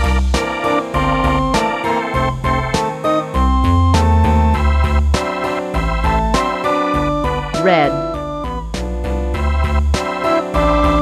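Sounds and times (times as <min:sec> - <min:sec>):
electronic keyboard tune with beat: 0:00.3 - 0:11.0.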